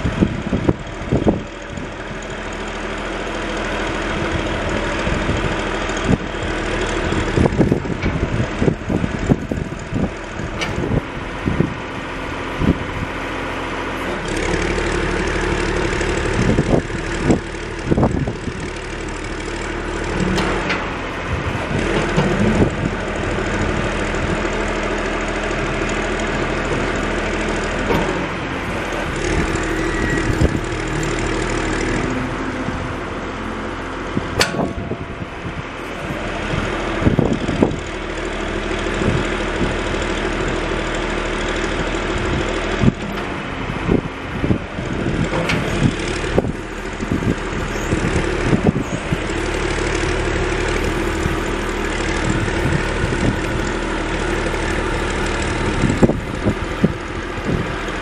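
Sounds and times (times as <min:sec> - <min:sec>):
backhoe diesel engine under load: 0:00.0 - 0:58.0.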